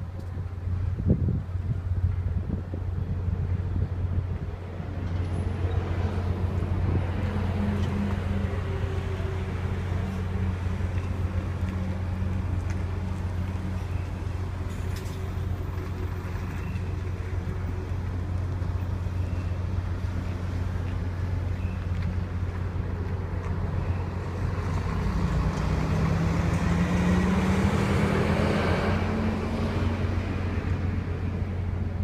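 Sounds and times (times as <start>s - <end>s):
ship engine droning: 0.0s - 32.0s
wind and water noise: 0.0s - 32.0s.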